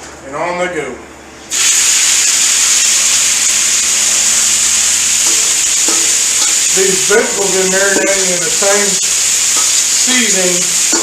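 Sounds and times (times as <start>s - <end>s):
vegetables sizzling on a griddle: 1.5s - 11.0s.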